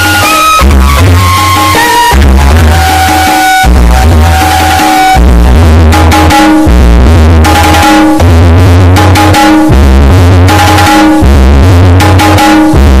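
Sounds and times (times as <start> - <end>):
drum beat: 0.0 - 13.0
heavy bass line: 0.0 - 13.0
synthesizer: 0.0 - 13.0.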